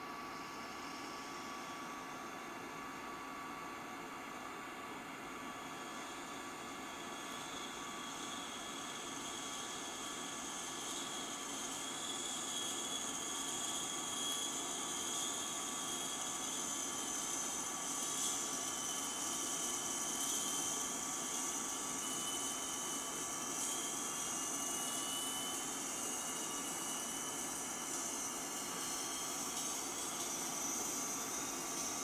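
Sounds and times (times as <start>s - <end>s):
small motor high whine: 0.0s - 32.0s.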